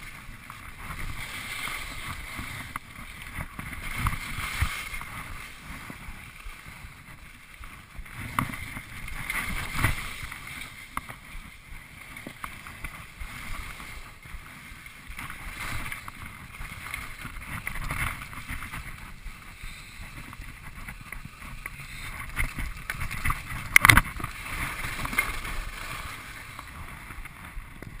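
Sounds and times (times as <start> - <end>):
skis carving over snow: 0.0 - 28.0.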